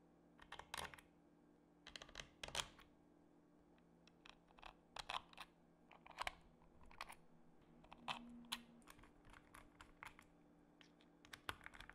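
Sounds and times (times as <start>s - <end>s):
faint hum: 0.0s - 11.9s.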